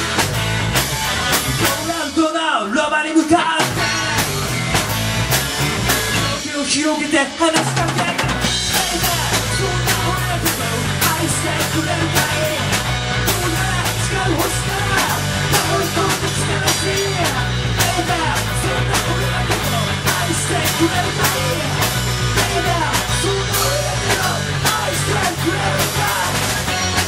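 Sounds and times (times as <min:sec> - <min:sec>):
drum kit fast beat: 0:00.0 - 0:02.4, 0:03.4 - 0:27.0
rock band music: 0:00.0 - 0:27.0.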